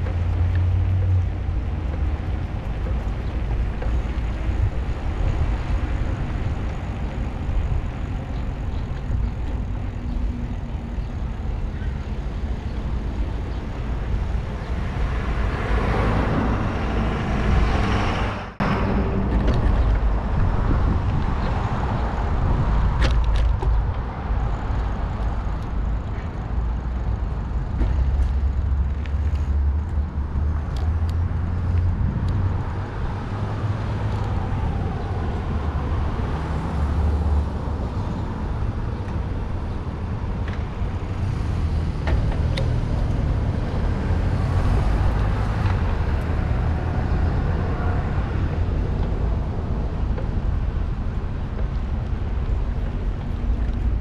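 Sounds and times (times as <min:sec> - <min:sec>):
cars driving past: 0:00.0 - 0:54.0
wind rumble on microphone: 0:00.0 - 0:54.0.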